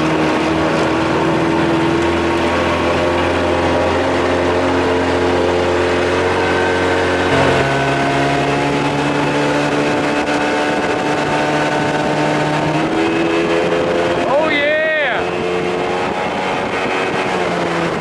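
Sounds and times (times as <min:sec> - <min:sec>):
outboard motor running at speed: 0:00.0 - 0:18.0.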